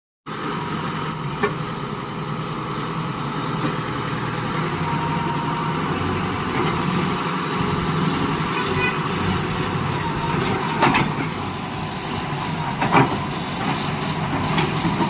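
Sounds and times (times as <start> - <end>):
heavy engine idling: 0.3 - 15.0.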